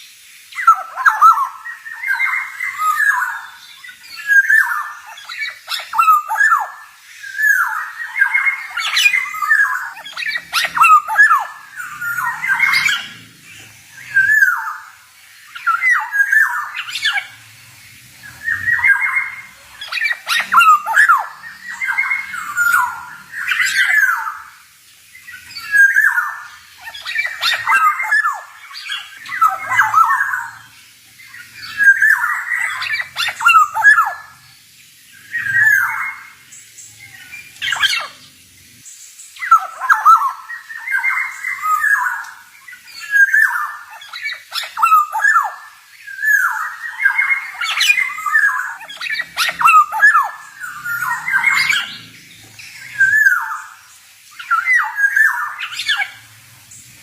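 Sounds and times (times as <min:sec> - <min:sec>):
oriole singing whistled notes: 0:00.4 - 0:56.8.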